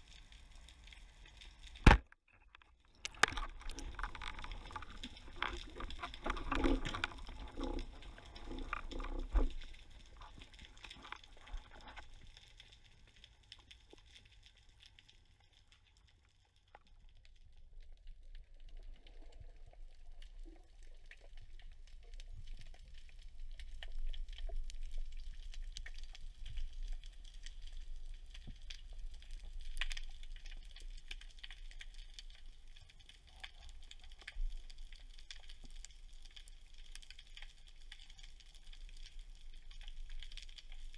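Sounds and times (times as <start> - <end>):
crackle of small clicks: 0.0 - 40.9
underwater water noise: 0.0 - 40.9.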